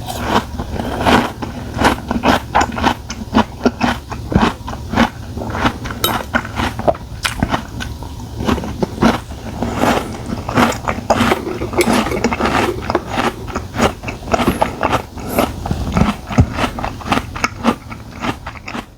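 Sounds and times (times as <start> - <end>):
person chewing and smacking lips: 0.0 - 18.9.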